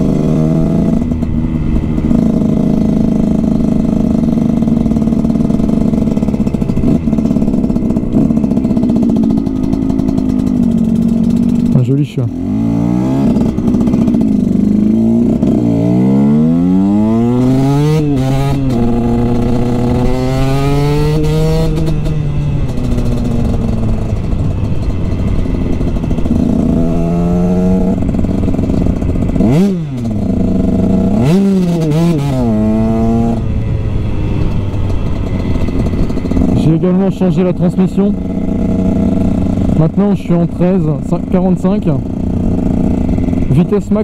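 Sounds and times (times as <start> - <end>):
two-stroke motorcycle engine accelerating: 0.0 - 44.0.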